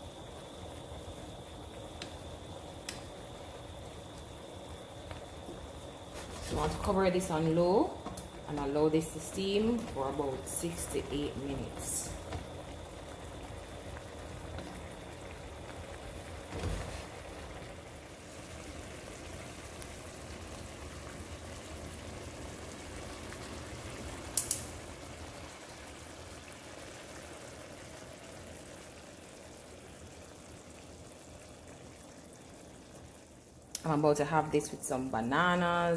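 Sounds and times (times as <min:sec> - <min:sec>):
broth simmering and bubbling: 0:00.0 - 0:35.9.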